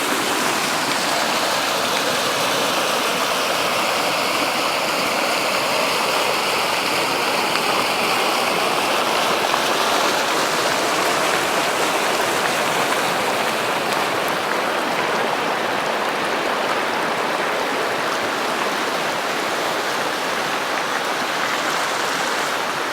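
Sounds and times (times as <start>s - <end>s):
floodwater rushing: 0.0s - 22.9s.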